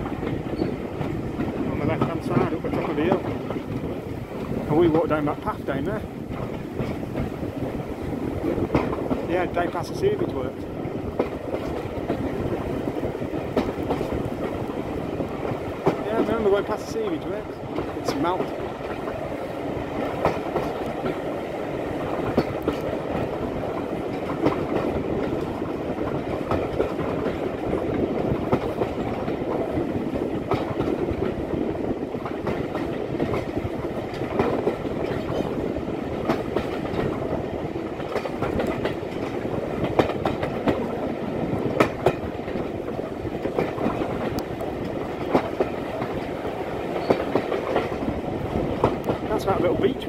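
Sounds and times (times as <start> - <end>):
train running rumble: 0.0 - 50.0
wheels clicking over rail joints: 0.0 - 50.0.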